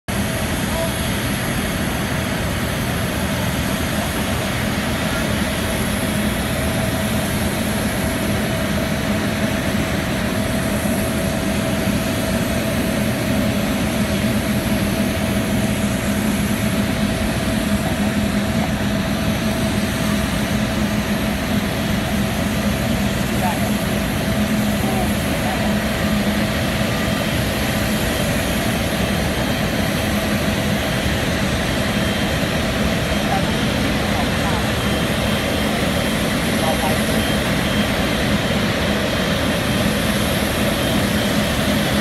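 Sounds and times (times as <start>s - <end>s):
jet aircraft noise: 0.1s - 42.0s.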